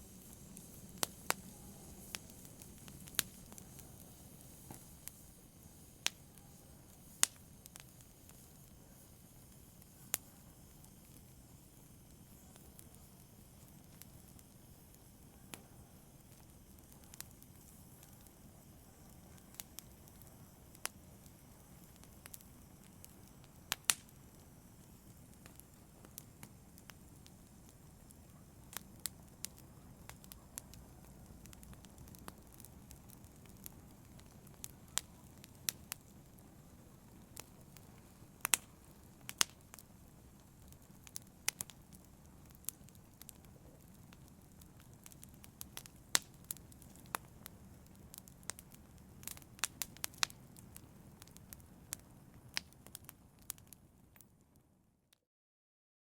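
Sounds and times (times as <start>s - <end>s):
wood fire crackling: 0.0s - 54.8s
low rumble of flames: 0.0s - 55.0s.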